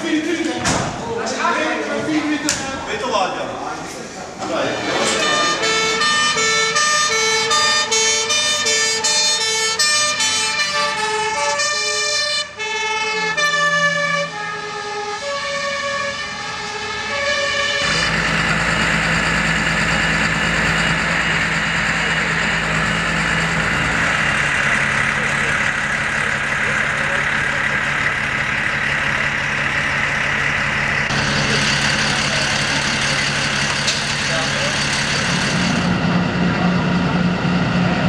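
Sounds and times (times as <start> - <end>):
diesel engine running: 0.0 - 38.0
two-tone fire engine siren: 5.0 - 38.0.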